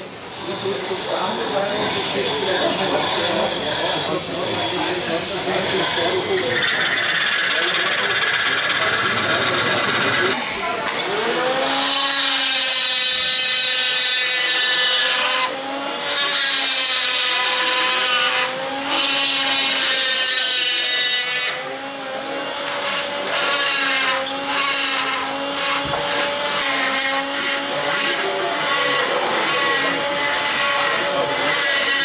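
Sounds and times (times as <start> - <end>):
rotary carving tool whining: 0.0 - 32.0.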